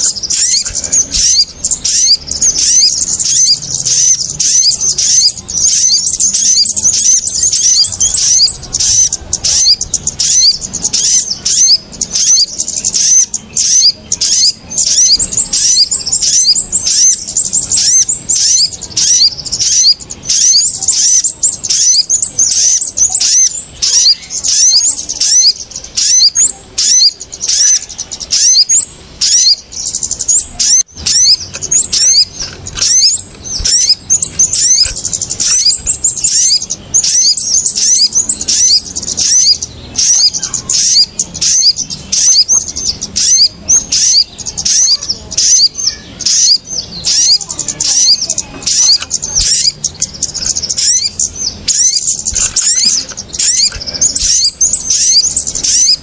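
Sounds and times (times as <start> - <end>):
birds chirping in noisy chorus: 0.0 - 56.0.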